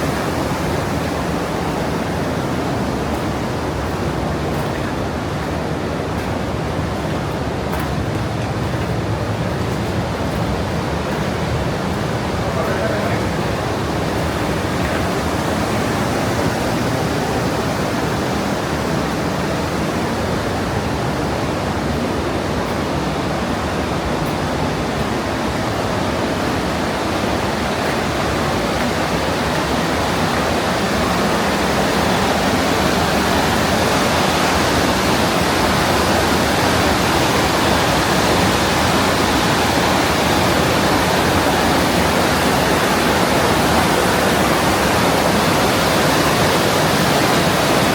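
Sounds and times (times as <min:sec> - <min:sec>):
stream rushing through gorge: 0:00.0 - 0:47.9.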